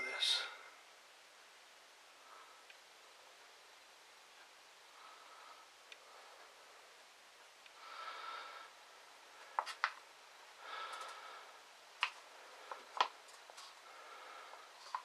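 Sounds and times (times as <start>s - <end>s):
soft nasal breaths: 0.5s - 15.0s.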